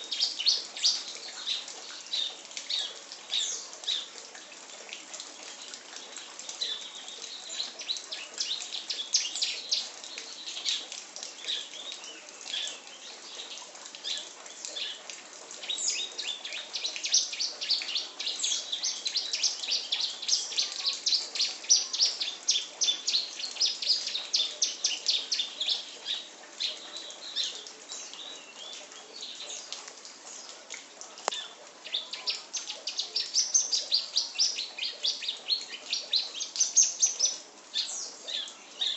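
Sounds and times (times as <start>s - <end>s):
songbird chirping and trilling: 0.0s - 4.2s, 6.4s - 15.0s, 15.6s - 30.6s, 31.2s - 38.9s.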